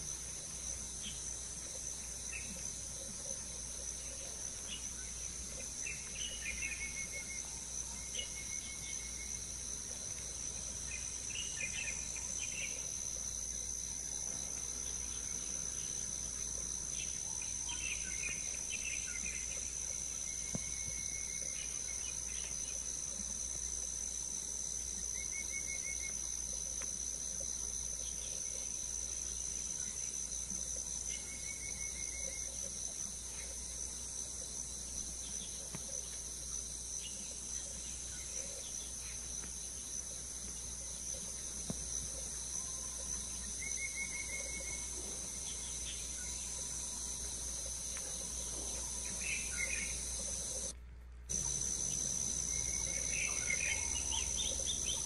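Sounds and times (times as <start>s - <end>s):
high-pitched insect drone: 3.8s - 50.7s, 51.3s - 55.0s.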